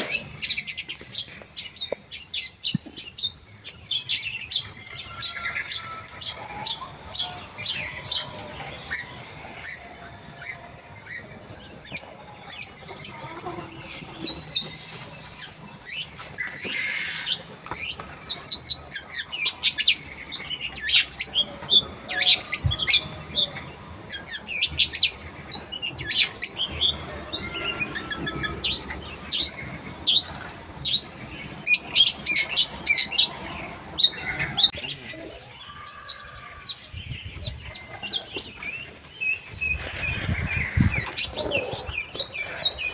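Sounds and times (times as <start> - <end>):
shrike singing chirps and trills: 0.0 - 42.9.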